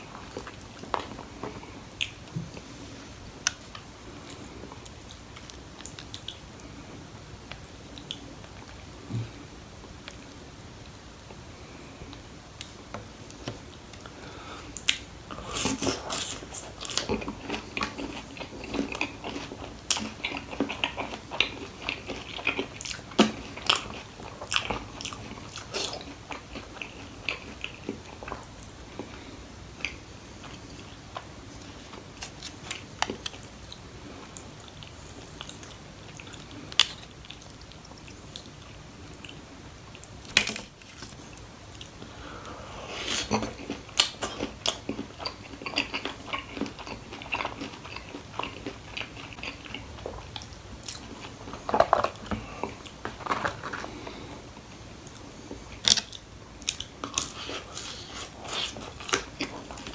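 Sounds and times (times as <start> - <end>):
crunching and chewing fried food: 0.0 - 2.8, 3.4 - 10.6, 12.1 - 59.9.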